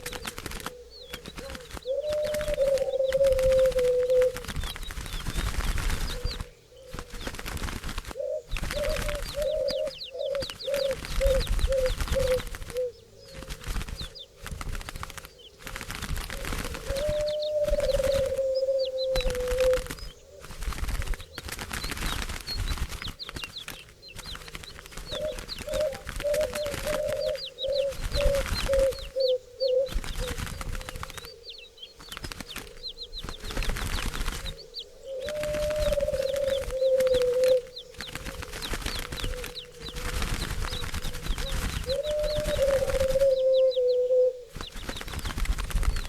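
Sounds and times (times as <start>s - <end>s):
doves cooing: 0.0s - 46.0s
rustling noise: 0.0s - 46.0s
small birds chirping: 0.0s - 46.0s.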